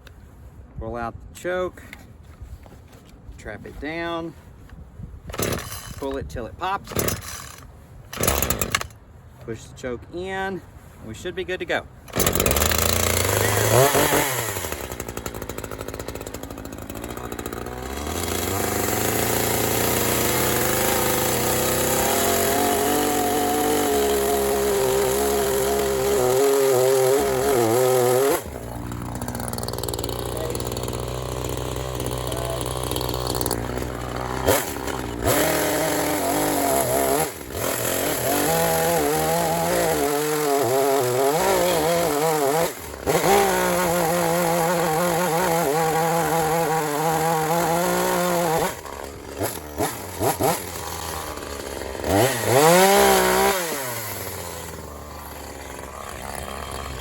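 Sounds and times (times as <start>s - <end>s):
chainsaw revving and idling: 5.3s - 9.0s, 11.5s - 57.0s.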